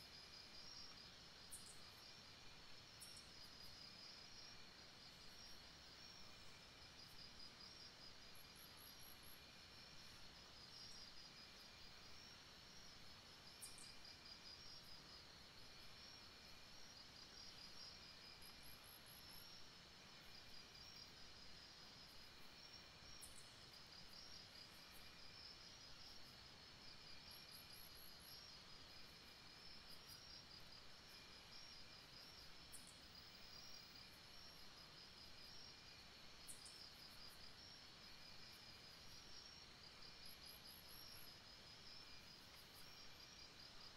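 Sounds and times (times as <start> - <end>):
faint pulsing insect chirps: 0.0 - 43.9.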